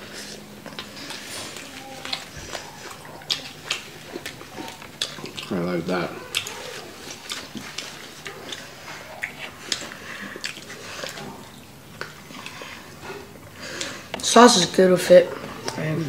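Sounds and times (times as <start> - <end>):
chewing and lip smacking: 0.1 - 14.2.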